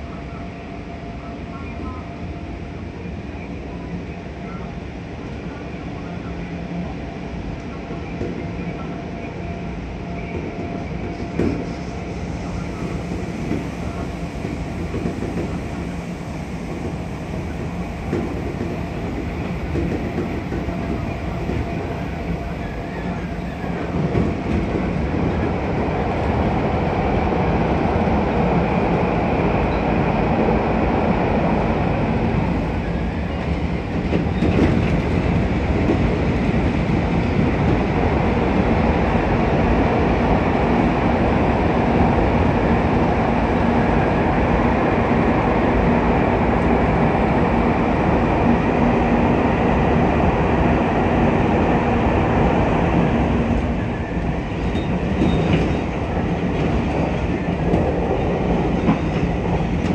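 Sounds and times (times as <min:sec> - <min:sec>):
electric train rolling noise: 0:07.6 - 0:59.9.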